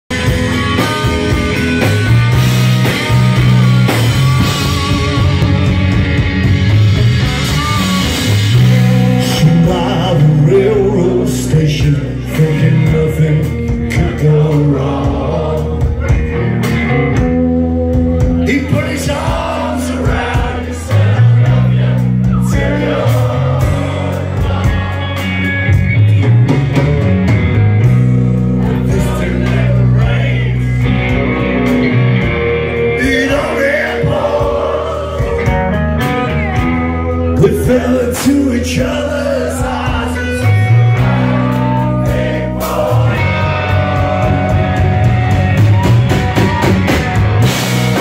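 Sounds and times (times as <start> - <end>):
bass guitar: 0.0 - 48.0
drums: 0.1 - 48.0
electric guitars: 0.1 - 48.0.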